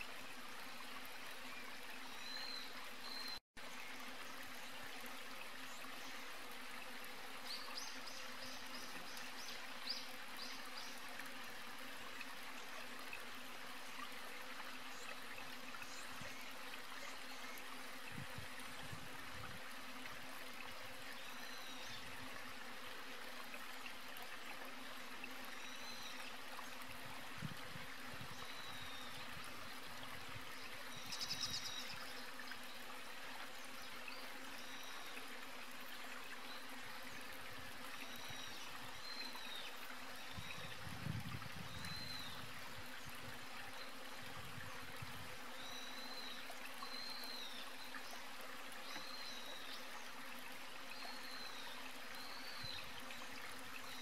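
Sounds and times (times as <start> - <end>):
rustle: 0.0 - 54.0.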